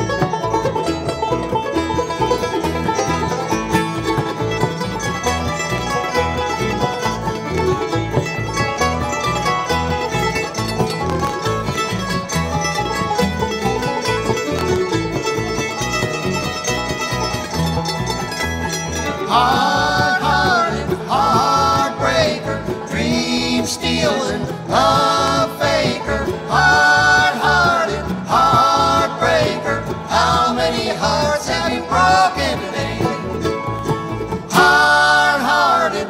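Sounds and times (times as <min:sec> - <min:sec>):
fast banjo picking: 0:00.0 - 0:36.0
guitar accompaniment: 0:00.0 - 0:36.0.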